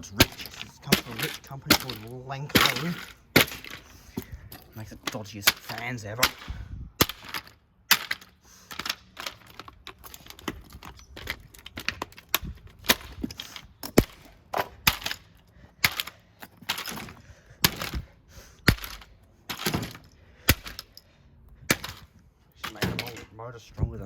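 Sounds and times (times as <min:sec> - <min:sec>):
hard blows smashing a fan: 0:00.0 - 0:21.0, 0:21.6 - 0:23.4
broken parts rattling: 0:00.0 - 0:24.0.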